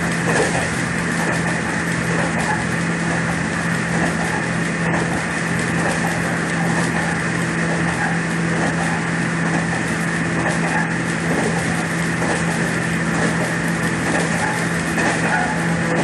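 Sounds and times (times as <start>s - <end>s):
high whine: 0.0s - 16.0s
machine drone: 0.0s - 16.0s.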